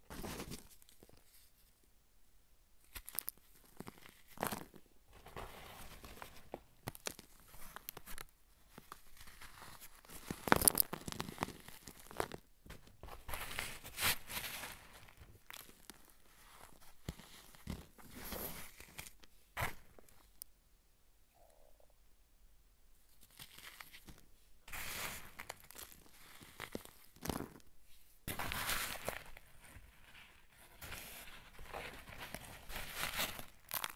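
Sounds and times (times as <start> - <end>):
hands crumbling powder block: 2.9 - 19.9, 23.2 - 33.9.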